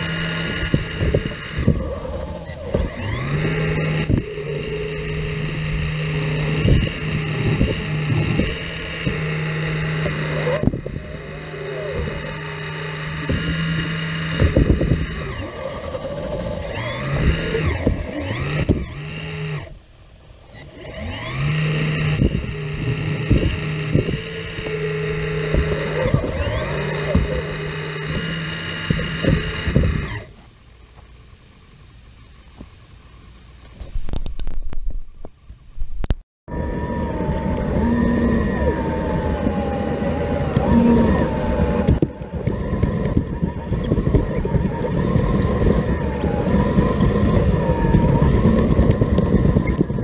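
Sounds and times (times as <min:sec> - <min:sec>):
excavator engine and pump: 0:00.0 - 0:50.0.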